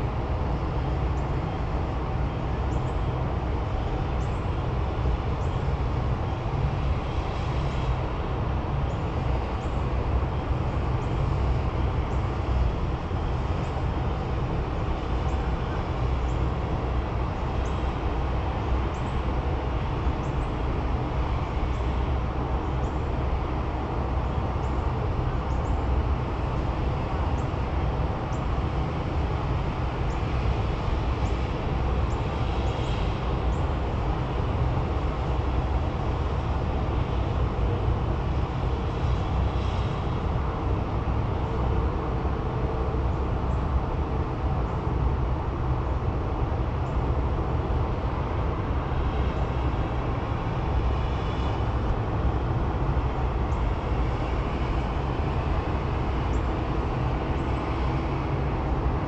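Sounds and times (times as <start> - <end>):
low background rumble: 0.0 - 59.0.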